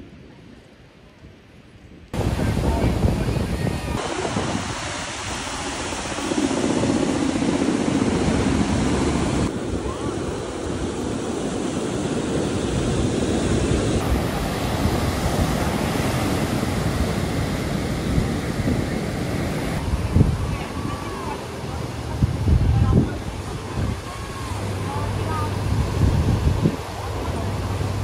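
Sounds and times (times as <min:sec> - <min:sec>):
wind rumbling on microphone: 0:00.0 - 0:28.0
ocean surf breaking: 0:02.2 - 0:28.0.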